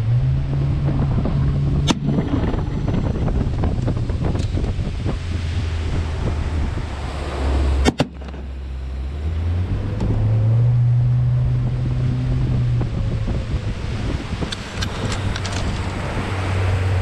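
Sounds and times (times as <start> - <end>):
outboard motor humming: 0.0 - 17.0.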